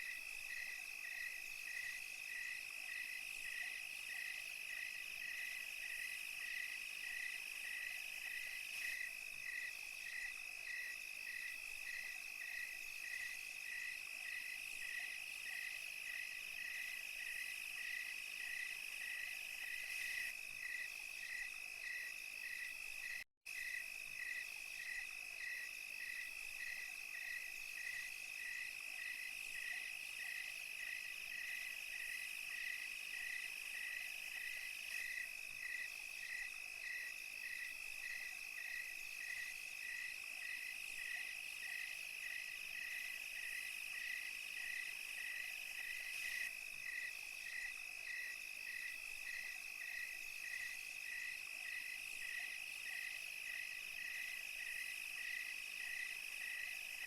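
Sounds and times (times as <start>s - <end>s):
cricket high-pitched trill: 0.0s - 57.0s
insect chirping: 0.0s - 57.0s.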